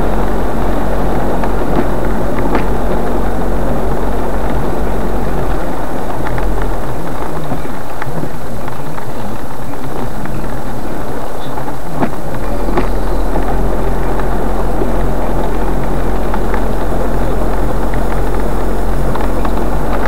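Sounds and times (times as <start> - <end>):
deep engine drone: 0.0 - 20.0
traffic rumble: 0.0 - 20.0.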